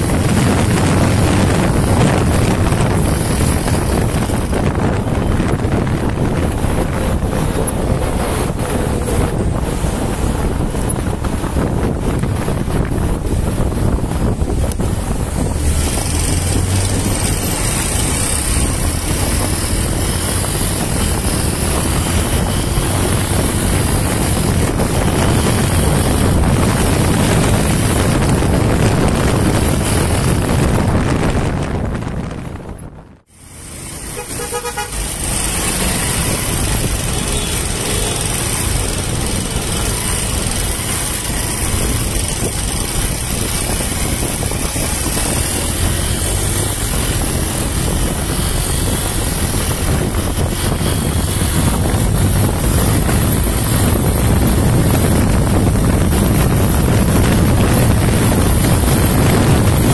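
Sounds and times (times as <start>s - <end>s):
motorcycle engine running: 0.0s - 59.9s
wind on microphone: 0.0s - 59.9s.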